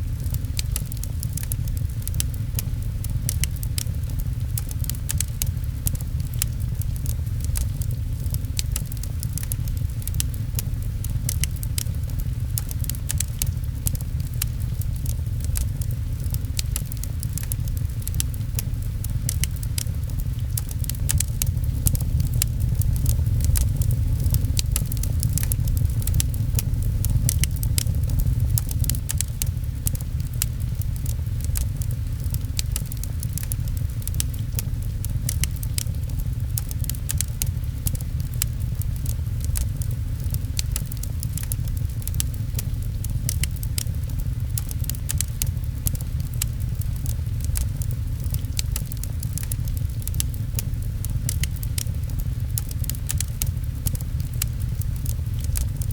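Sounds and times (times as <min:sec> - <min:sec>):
rain on a window: 0:00.0 - 0:55.9
wood fire crackling: 0:00.0 - 0:55.9.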